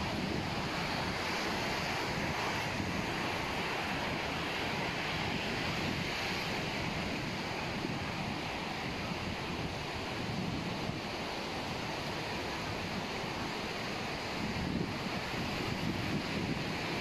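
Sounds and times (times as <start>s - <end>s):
surf washing onto beach: 0.0s - 17.0s
wind rumbling on microphone: 0.0s - 17.0s.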